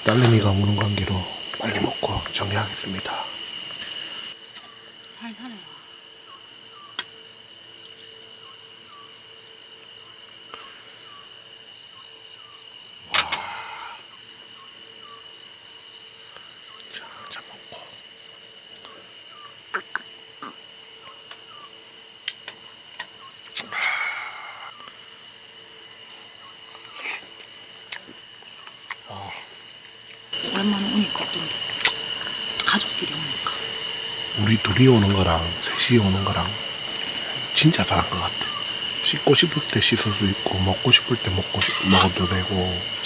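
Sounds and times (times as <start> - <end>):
crickets chirring: 0.0 - 43.0.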